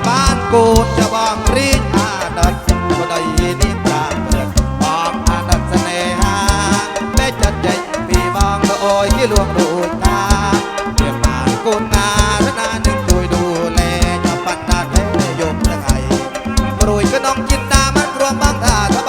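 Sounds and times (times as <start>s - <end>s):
driving drum beat: 0.0s - 19.0s
wavering melodic lead: 0.0s - 19.0s.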